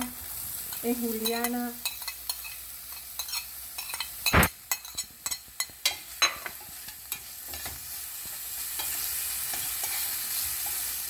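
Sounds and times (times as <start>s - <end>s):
light sizzle: 0.0s - 11.0s
utensil scraping a frying pan: 0.7s - 8.0s, 8.6s - 11.0s.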